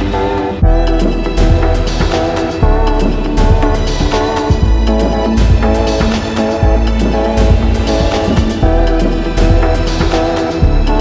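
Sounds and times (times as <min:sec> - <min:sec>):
background music with deep bass: 0:00.0 - 0:11.0.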